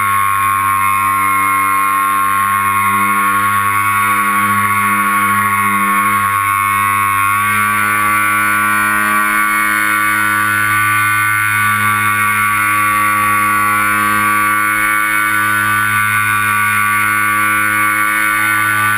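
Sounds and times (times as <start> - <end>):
electric motors and propellers whining: 0.0 - 18.9.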